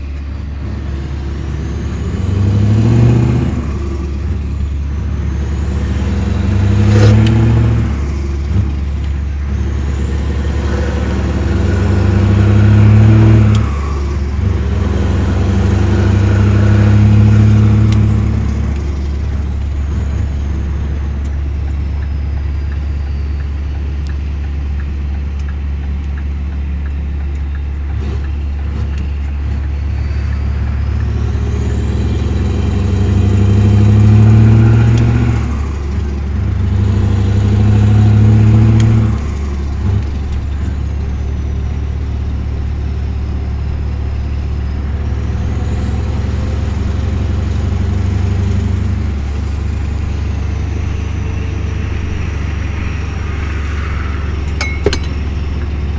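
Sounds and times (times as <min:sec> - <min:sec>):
diesel truck engine revving: 0:00.0 - 0:55.9.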